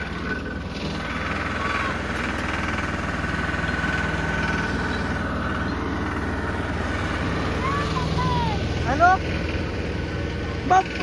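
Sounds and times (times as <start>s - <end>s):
high engine whine: 0.0s - 11.0s
tractor diesel engine running: 0.0s - 11.0s.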